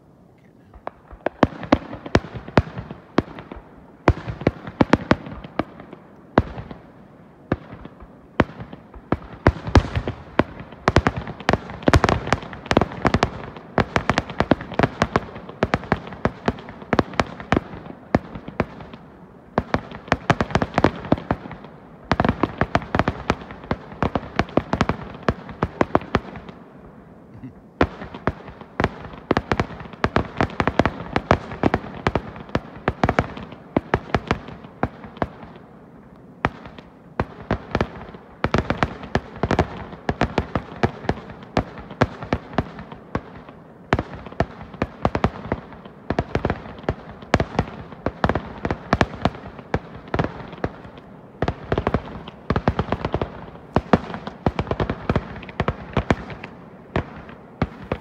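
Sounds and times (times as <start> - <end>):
fireworks bangs and crackles: 0.6 - 58.0.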